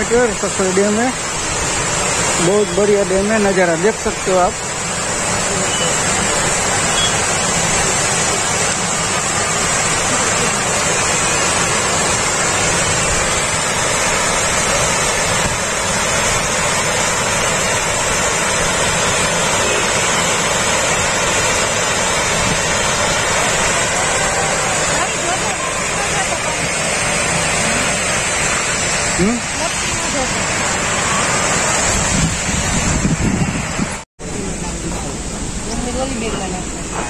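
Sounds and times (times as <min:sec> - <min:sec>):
water rushing over dam: 0:00.0 - 0:37.0.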